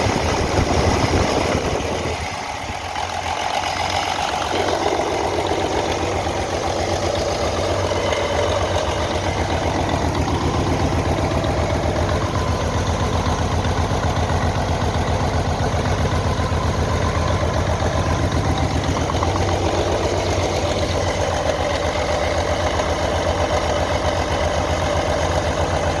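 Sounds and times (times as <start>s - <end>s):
diesel engine throbbing: 0.0s - 26.0s.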